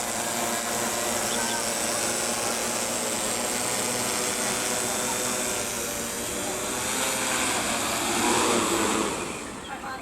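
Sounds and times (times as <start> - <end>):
drone motors whining: 0.0 - 9.7.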